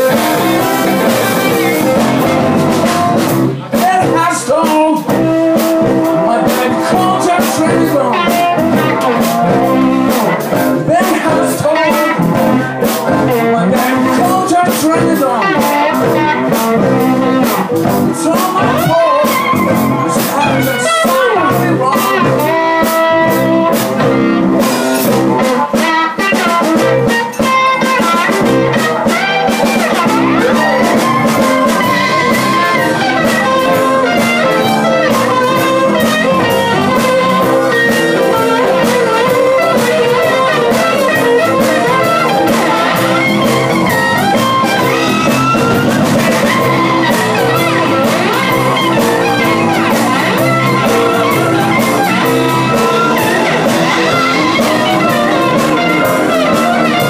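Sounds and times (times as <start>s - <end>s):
bass guitar: 0.0s - 57.0s
drums: 0.0s - 57.0s
electric guitar bending notes: 0.0s - 57.0s
keyboard: 0.0s - 57.0s.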